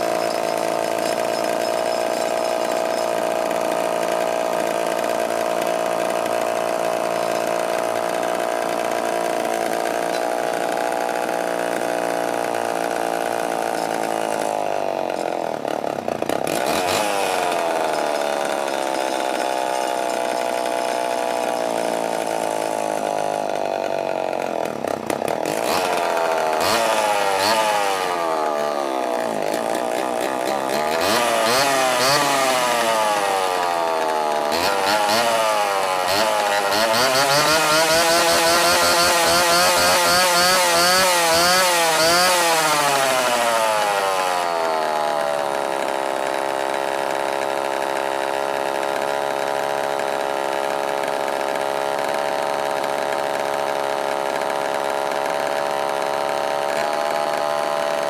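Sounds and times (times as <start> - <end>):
chainsaw engine revving: 0.0 - 58.0.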